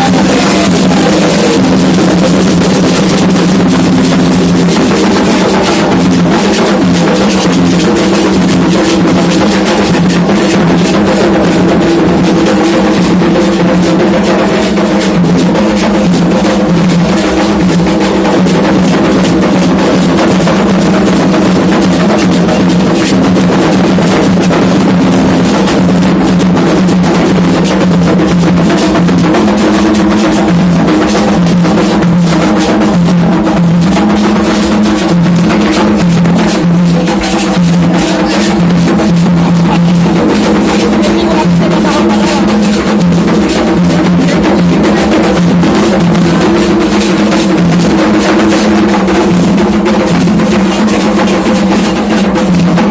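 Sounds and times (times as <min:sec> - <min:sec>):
hand drums playing rhythms: 0:00.0 - 0:52.9.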